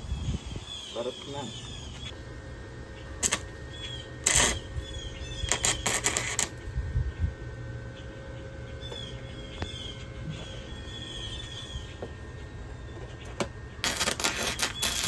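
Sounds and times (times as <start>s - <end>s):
arc welder crackling: 0.8s - 15.0s.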